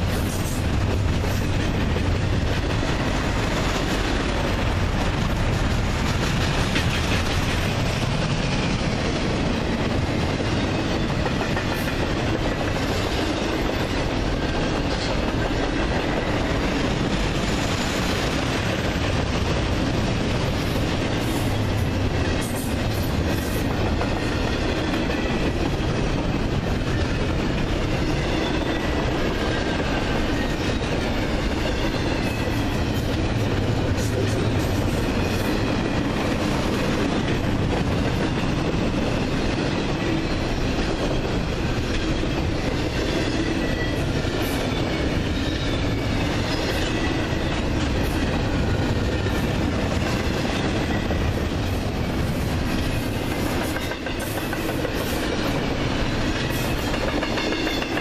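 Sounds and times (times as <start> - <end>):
clickety-clack over rail joints: 0.0 - 58.0
train wheels rumbling on rail: 0.0 - 58.0.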